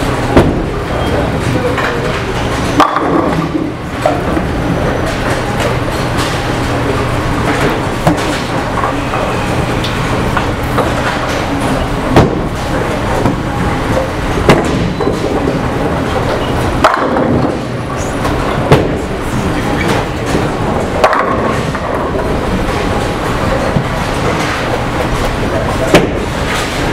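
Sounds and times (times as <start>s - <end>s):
bowling balls rolling: 0.0s - 26.9s
bowling balls striking pins: 0.0s - 26.9s.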